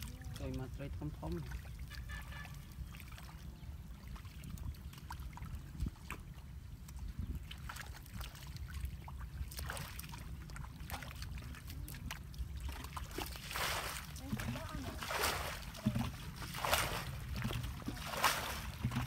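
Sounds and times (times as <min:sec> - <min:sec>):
muddy water splashing: 0:00.0 - 0:19.0.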